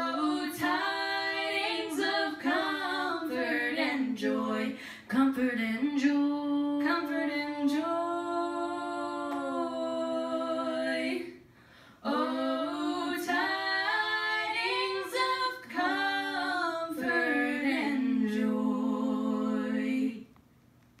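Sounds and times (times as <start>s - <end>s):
women singing wordless harmony: 0.0s - 20.3s.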